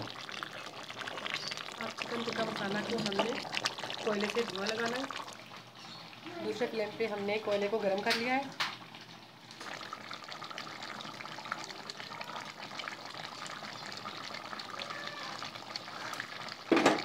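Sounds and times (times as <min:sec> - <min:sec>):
gravy bubbling in a pot: 0:00.0 - 0:17.0.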